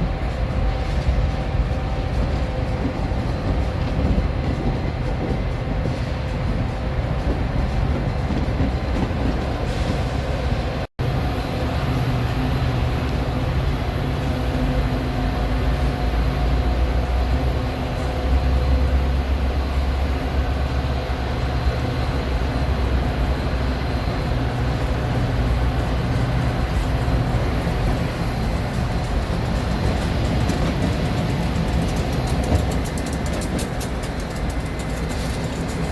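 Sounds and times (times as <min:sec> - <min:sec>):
diesel train low rumble: 0:00.0 - 0:35.9.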